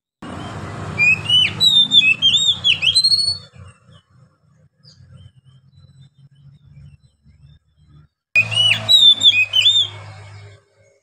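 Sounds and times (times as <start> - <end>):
magpie-robin singing whistled notes: 0.3 - 4.2, 4.8 - 11.0.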